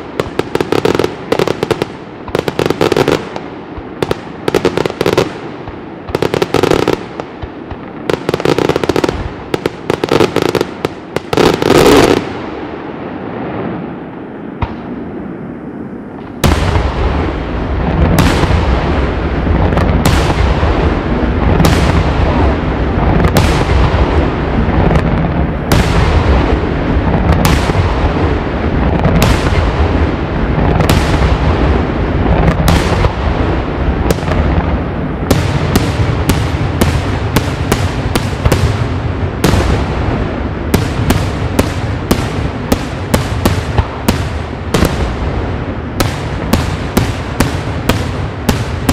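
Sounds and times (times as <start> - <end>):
fireworks crackling and banging: 0.0 - 48.9
rumbling barrage of detonations: 8.9 - 48.9.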